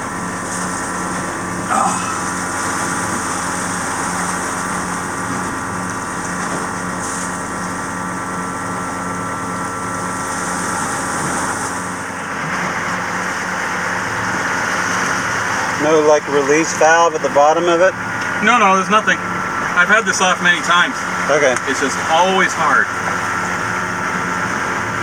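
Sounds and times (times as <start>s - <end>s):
machinery engine hum: 0.0s - 25.0s.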